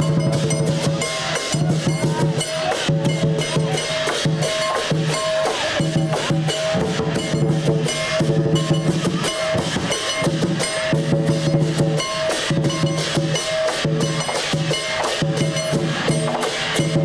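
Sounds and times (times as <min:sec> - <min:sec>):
drums beating fast: 0:00.0 - 0:17.0
gongs ringing: 0:00.0 - 0:17.0.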